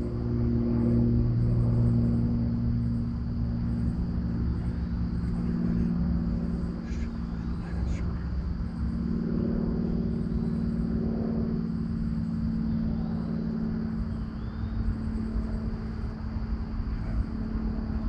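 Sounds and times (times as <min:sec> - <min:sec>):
steady low hum: 0:00.0 - 0:18.0
uneven low rumble: 0:00.0 - 0:18.0.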